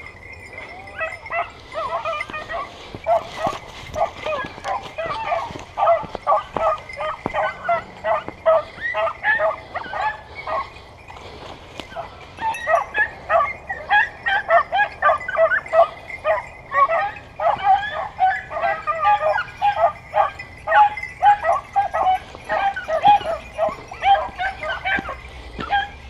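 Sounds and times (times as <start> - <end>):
hunting dogs yelping: 0.0 - 26.0.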